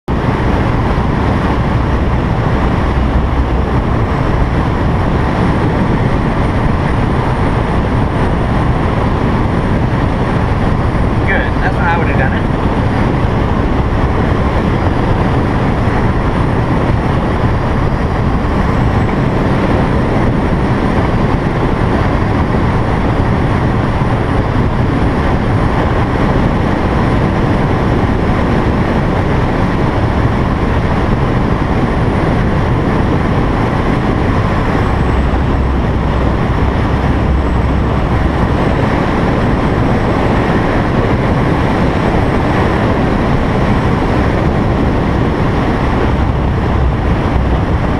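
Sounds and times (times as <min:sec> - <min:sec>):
deep rumble: 0:00.0 - 0:47.9
strong wind rushing: 0:00.0 - 0:47.9.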